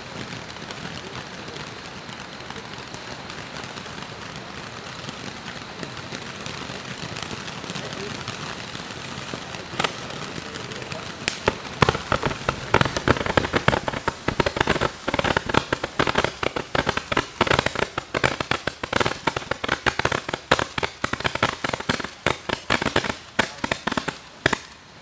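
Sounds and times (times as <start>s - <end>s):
firework hissing: 0.0s - 25.0s
firework pops and crackles: 0.0s - 25.0s.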